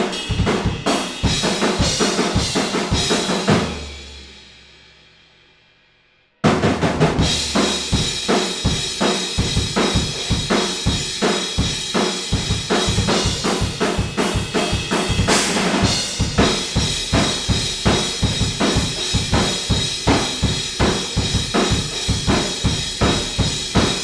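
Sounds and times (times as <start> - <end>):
drum kit playing a steady beat: 0.0 - 4.9, 6.4 - 24.0.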